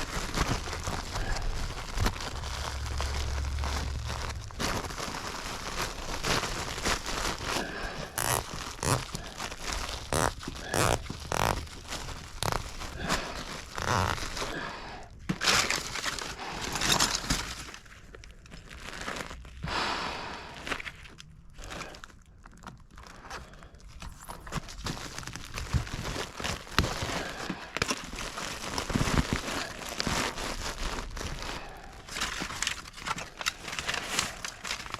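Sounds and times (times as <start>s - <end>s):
crinkling and rustling materials: 0.0s - 34.9s.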